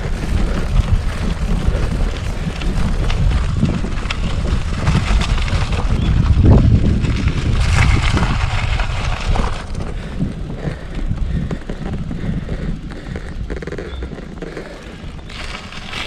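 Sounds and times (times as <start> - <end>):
bike rattling: 0.0 - 16.0
tyres crunching on gravel: 0.0 - 16.0
wind buffeting microphone: 0.0 - 16.0.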